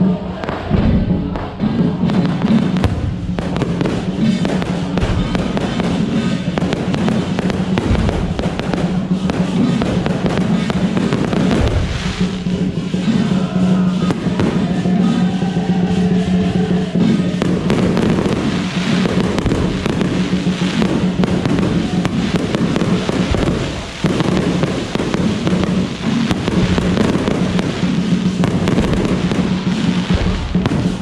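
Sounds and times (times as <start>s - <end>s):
fireworks bangs and crackles: 0.0s - 31.0s
music: 0.0s - 31.0s.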